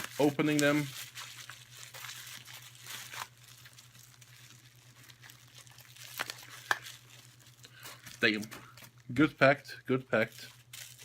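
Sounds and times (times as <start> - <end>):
packaging being torn and crumpled: 0.0 - 9.1, 10.2 - 11.0.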